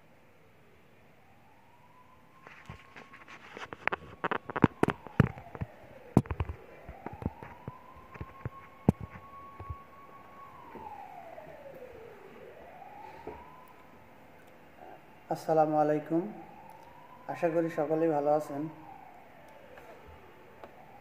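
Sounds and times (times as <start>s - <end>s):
faint siren wailing: 0.0s - 21.0s.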